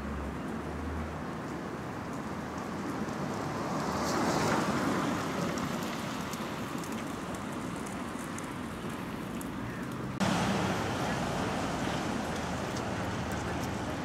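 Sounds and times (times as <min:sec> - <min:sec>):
traffic hiss: 0:02.4 - 0:14.0.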